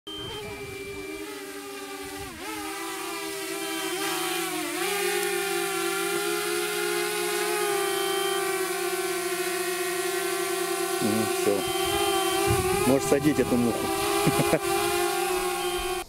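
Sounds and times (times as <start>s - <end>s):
drone propellers whining: 0.1s - 16.0s.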